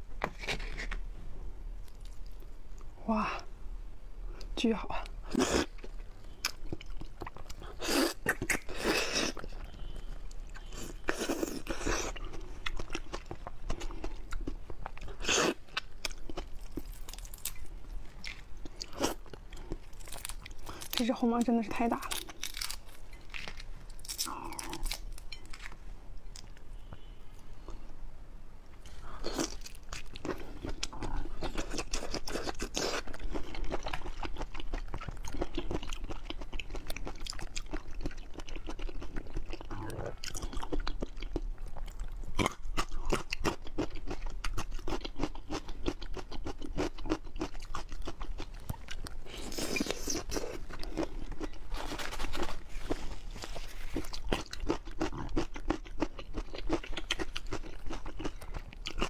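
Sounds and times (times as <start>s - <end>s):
person chewing crunchy shrimp: 5.0s - 21.1s, 22.1s - 27.1s, 28.8s - 59.0s.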